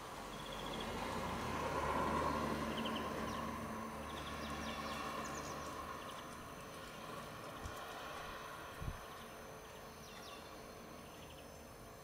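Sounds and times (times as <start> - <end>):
distant engine passing by: 0.0 - 11.5
small birds chirping: 0.2 - 1.0, 2.1 - 11.8.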